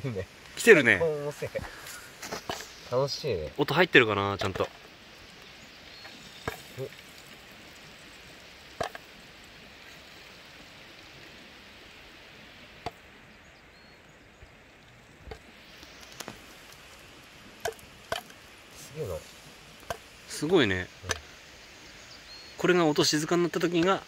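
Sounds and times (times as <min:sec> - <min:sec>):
oil hissing: 0:00.0 - 0:13.7, 0:14.6 - 0:24.0.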